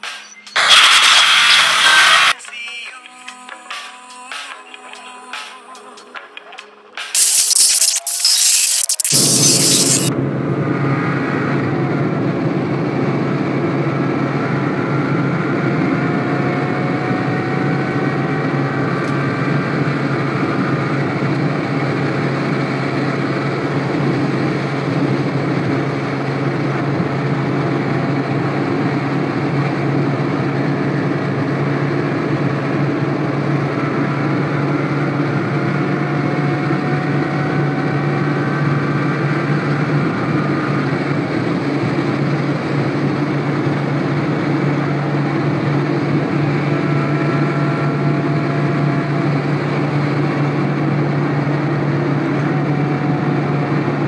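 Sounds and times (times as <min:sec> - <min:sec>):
car engine hum: 0:07.2 - 0:54.0.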